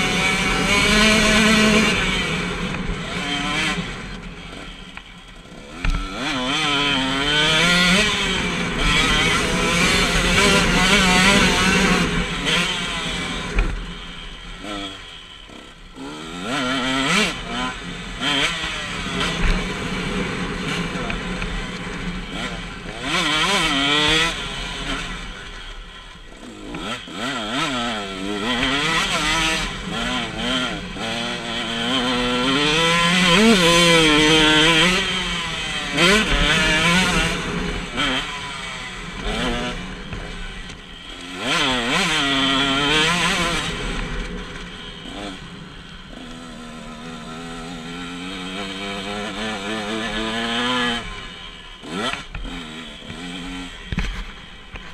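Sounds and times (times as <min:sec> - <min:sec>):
motocross engine revving: 0:00.0 - 0:54.9.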